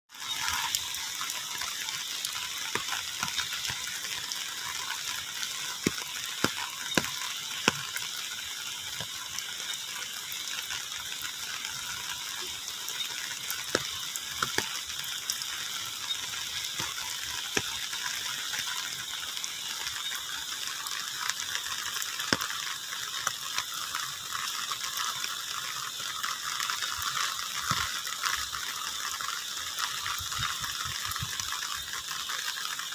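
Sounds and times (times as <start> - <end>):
raindrops ticking on surface: 0.1 - 32.9
steady rain falling: 0.1 - 32.9.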